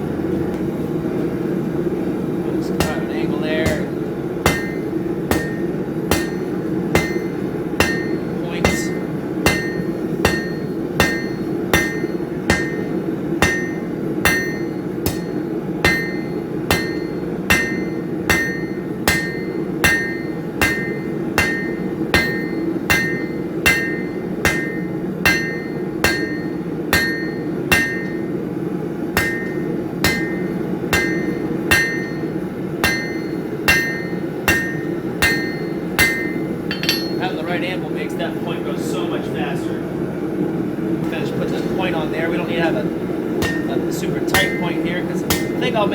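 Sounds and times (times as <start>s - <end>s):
steady low hum: 0.0s - 45.9s
hammer striking steel on anvil: 2.6s - 37.6s, 43.3s - 45.9s.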